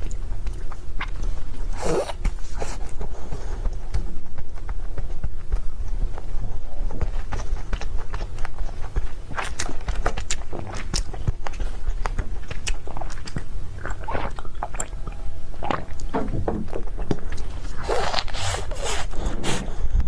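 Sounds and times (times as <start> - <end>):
chewing with mouth clicks: 0.0 - 19.1.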